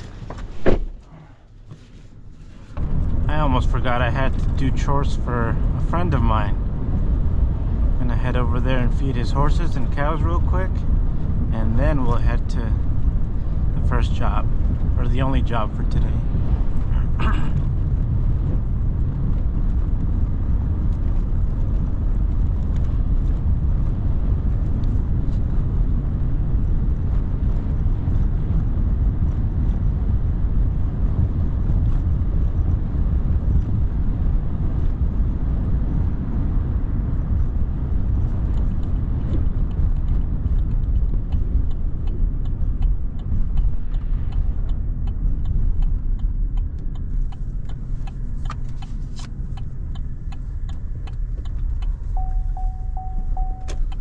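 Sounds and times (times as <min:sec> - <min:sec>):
truck engine and road noise: 0:00.0 - 0:54.0.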